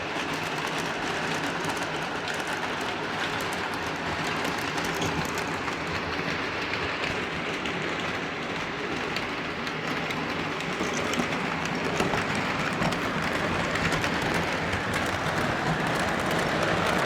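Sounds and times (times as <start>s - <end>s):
model train rumbling: 0.0s - 17.0s
wheels clicking on rails: 0.0s - 17.0s.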